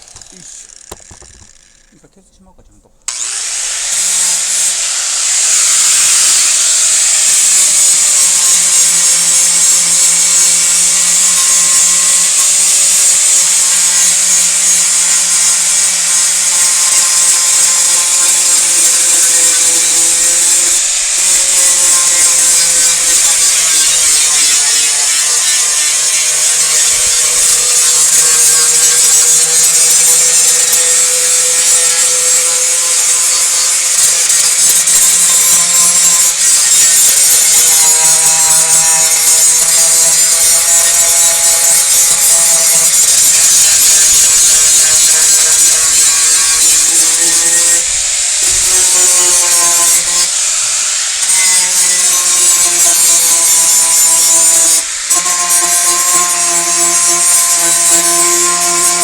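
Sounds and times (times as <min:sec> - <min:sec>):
power sander running: 0:00.0 - 0:02.0, 0:03.1 - 0:59.0.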